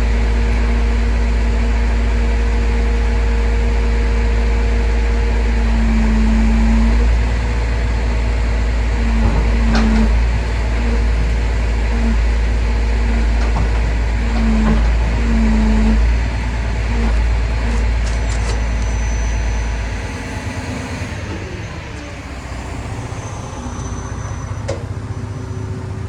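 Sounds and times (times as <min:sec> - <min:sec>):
humming tone: 0:00.0 - 0:16.2, 0:16.8 - 0:26.0
truck engine rumbling: 0:00.0 - 0:26.0.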